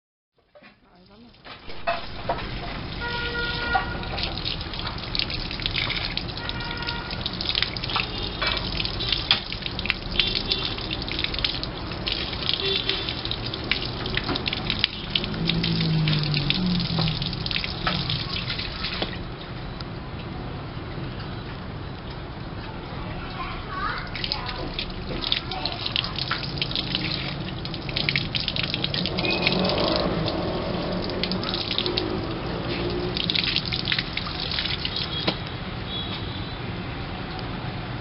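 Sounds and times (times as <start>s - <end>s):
water pouring and splashing: 0.4s - 19.8s, 21.3s - 36.0s
water dripping: 0.4s - 19.9s, 23.3s - 36.3s.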